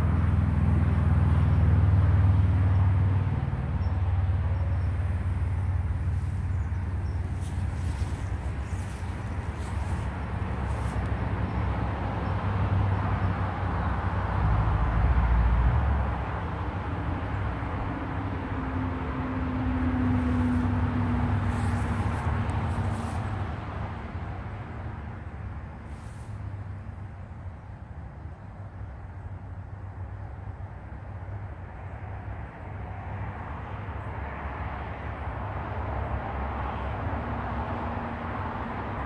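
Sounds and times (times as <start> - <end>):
engine hum: 0.0 - 39.0
road traffic rumble: 0.0 - 39.0.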